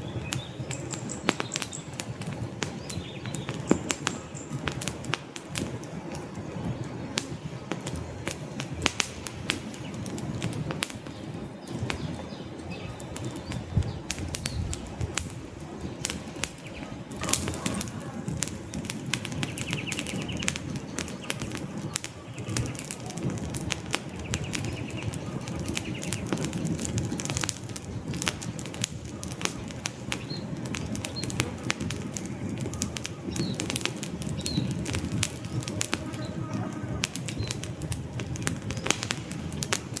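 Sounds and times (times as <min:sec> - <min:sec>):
low rumble of flames: 0:00.0 - 0:40.0
wood fire crackling and popping: 0:00.0 - 0:40.0.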